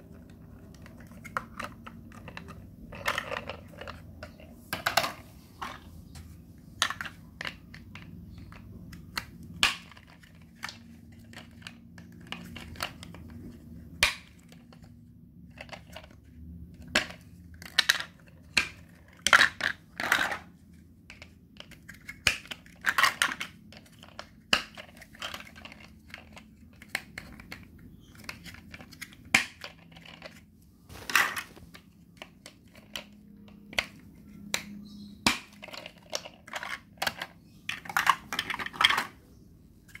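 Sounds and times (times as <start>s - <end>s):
plastic blocks clattering and clicking: 0.0s - 39.2s.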